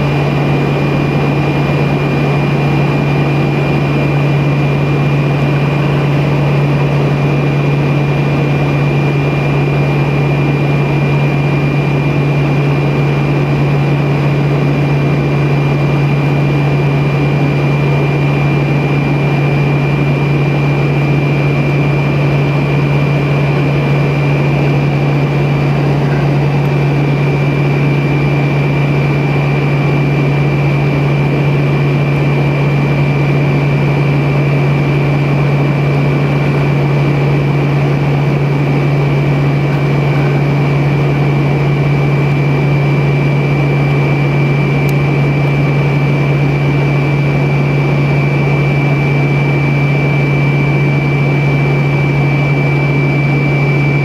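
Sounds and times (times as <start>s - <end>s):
airflow around cabin: 0.0s - 54.0s
high whine: 0.0s - 54.0s
jet engine drone in cabin: 0.0s - 54.0s.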